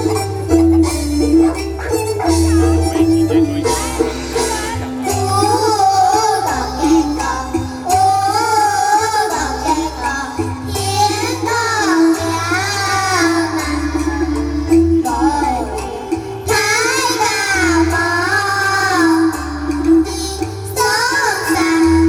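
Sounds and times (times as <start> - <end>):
children singing together: 0.0 - 22.0
instrumental music with pulsing bass: 0.0 - 22.0.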